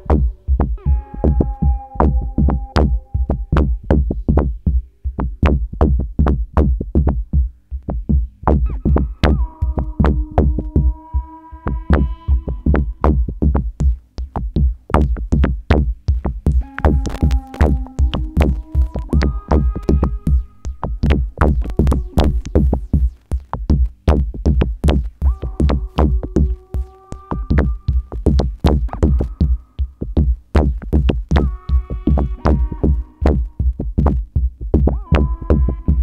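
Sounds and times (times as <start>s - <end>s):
held synth tones: 0.0s - 5.0s, 8.5s - 34.2s
percussive electronic beat: 0.0s - 36.0s.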